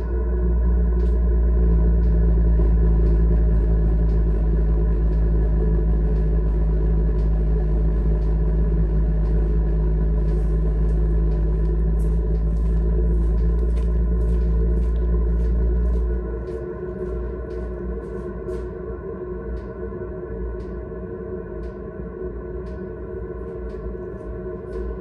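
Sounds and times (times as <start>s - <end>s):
heater blower humming rumble: 0.0s - 25.0s.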